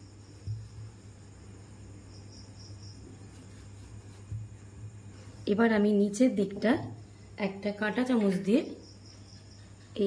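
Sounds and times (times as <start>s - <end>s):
faint high-pitched chirping: 0.0s - 10.0s
steady low hum: 0.0s - 10.0s.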